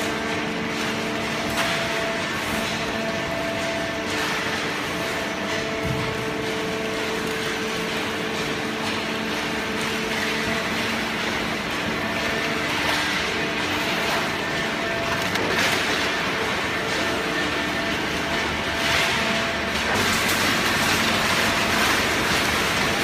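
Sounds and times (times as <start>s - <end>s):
baler machine drone with whining tones: 0.0s - 23.0s.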